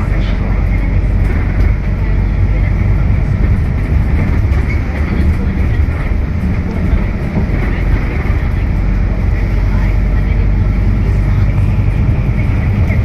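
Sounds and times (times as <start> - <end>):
bus interior rumble: 0.0 - 13.0.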